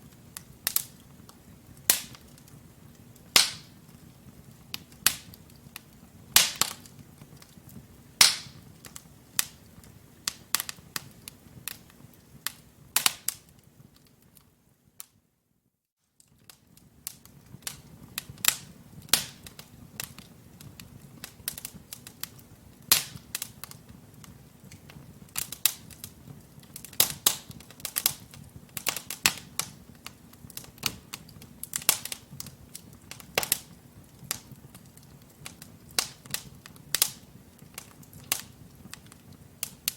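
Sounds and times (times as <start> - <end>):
wood fire crackling and popping: 0.0 - 15.2, 16.1 - 39.9
faint steady hiss: 0.0 - 39.9.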